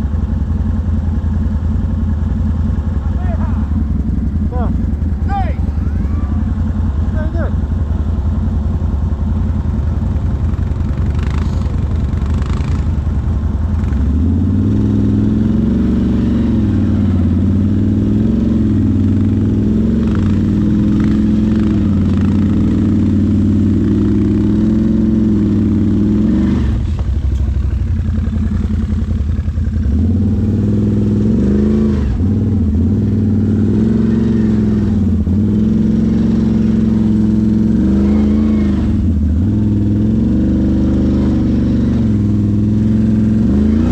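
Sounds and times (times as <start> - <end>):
atv engine revving: 0.0 - 43.9.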